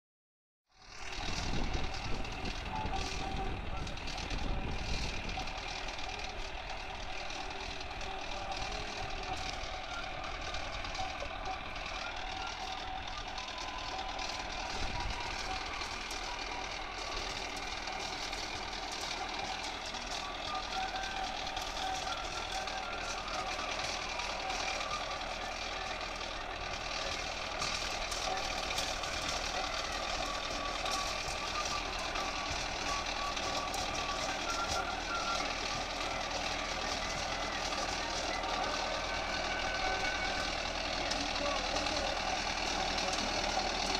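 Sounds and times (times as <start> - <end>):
tractor diesel engine under load: 0.7 - 43.9
steady whine: 1.3 - 43.9.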